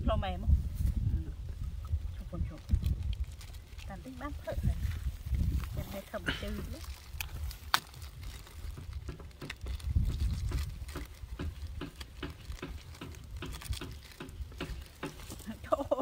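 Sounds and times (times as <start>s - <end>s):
plastic bag crinkling: 2.5s - 15.5s.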